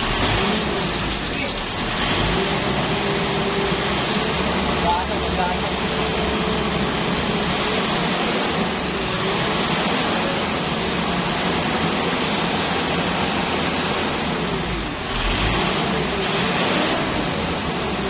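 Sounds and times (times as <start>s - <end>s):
water spraying onto vehicle: 0.0s - 18.0s.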